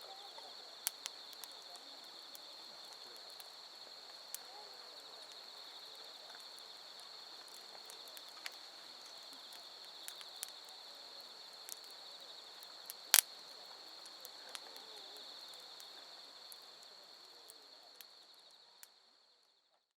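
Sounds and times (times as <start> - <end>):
night insects trilling: 0.0 - 19.8
wood fire crackling and popping: 0.1 - 19.0.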